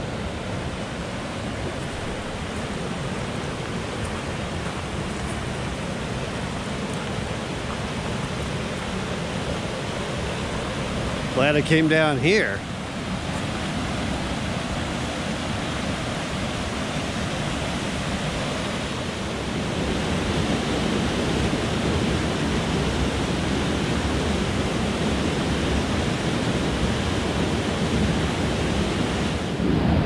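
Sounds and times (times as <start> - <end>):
waterfall rushing: 0.0 - 29.9
river rapids: 0.0 - 30.0.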